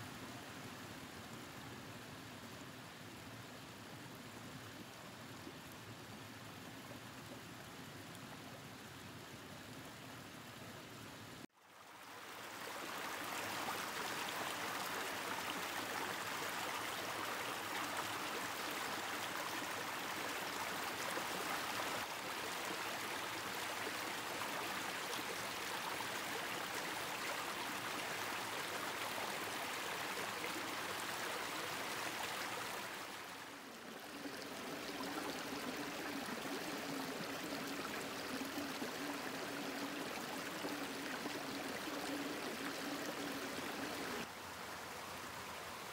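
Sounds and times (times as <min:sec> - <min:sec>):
stream flowing over rocks: 0:00.1 - 0:45.9.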